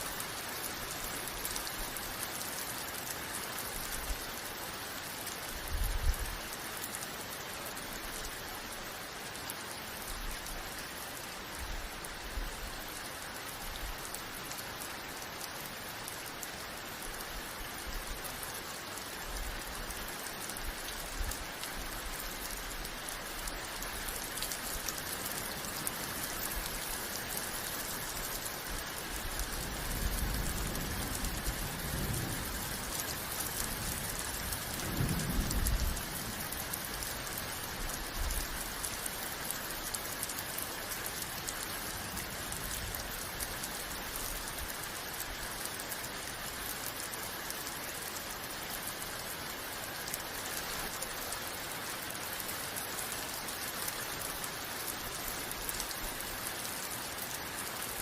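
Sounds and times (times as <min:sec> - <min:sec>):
rain falling steadily: 0:00.0 - 0:58.0.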